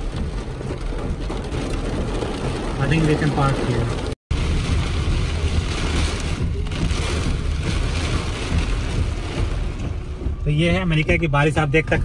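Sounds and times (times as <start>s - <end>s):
car rumbling on wet road: 0.0s - 12.0s
heavy rain on car roof: 0.0s - 12.0s.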